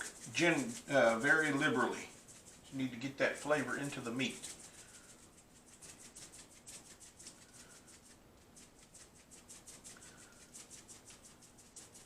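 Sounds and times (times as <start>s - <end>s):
shaker rattling dry rub: 0.0s - 12.0s.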